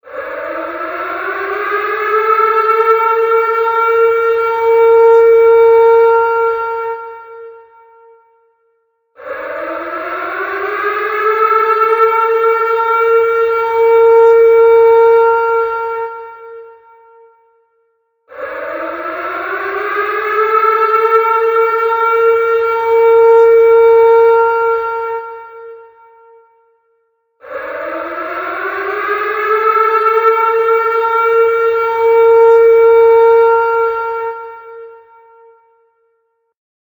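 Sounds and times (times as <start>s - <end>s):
warning siren wailing: 0.0s - 8.1s, 9.2s - 17.3s, 18.3s - 26.4s, 27.4s - 35.8s.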